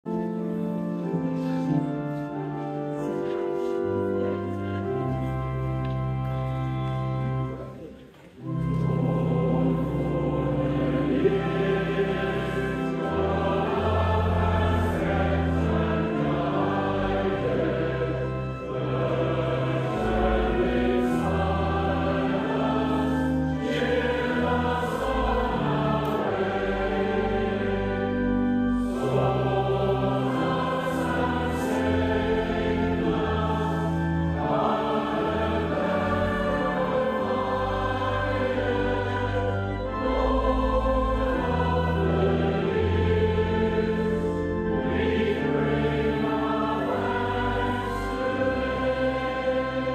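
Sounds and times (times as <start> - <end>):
choir singing church music: 0.1 - 49.9.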